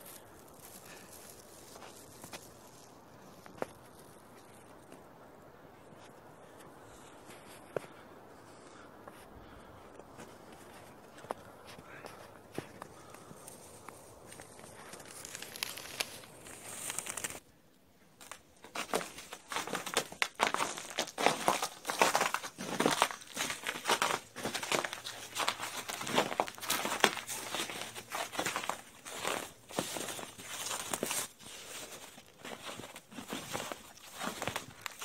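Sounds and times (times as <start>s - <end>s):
footsteps crunching in snow: 0.0s - 5.1s, 5.8s - 17.4s, 18.2s - 35.0s.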